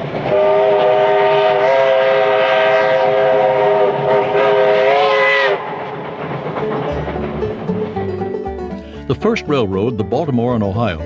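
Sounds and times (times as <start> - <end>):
steam locomotive whistle: 0.0 - 9.5
train running: 0.0 - 11.0.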